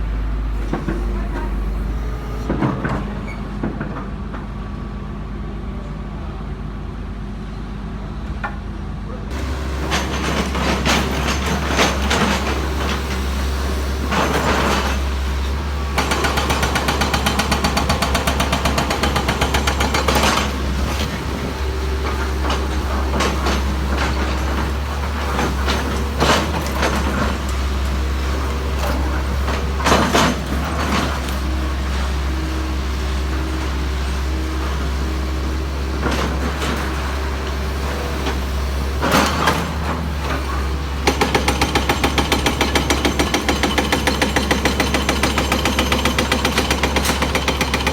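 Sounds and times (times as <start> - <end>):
heavy diesel machinery droning: 0.0 - 4.4, 9.3 - 44.7.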